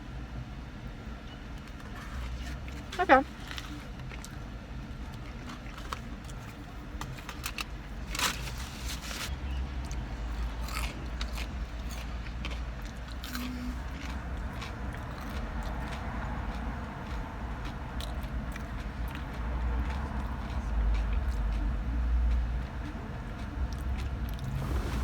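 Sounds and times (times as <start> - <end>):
person chewing food: 1.6 - 8.7, 9.8 - 25.0.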